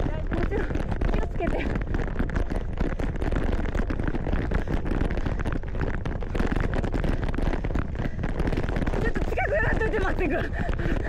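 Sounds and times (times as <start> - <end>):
bike rattling: 0.0 - 11.0
bike tyres crunching gravel: 0.0 - 11.0
wind on microphone: 0.0 - 11.0.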